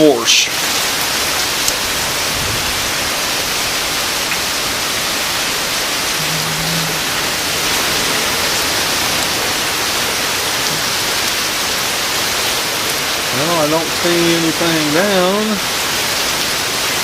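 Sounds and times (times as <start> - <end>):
heavy rain pouring: 0.0 - 17.0
water streaming from gutters: 0.0 - 17.0.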